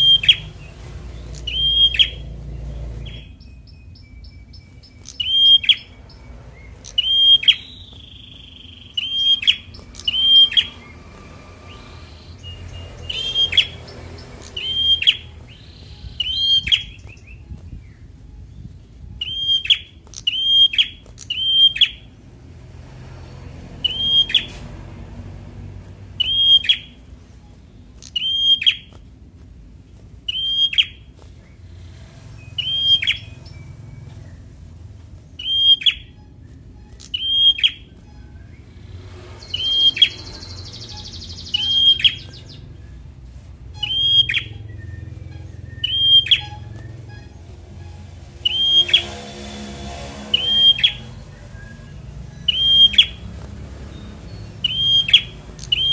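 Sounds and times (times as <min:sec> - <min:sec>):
bird calling sharp notes: 0:00.0 - 0:22.4, 0:23.7 - 0:55.9.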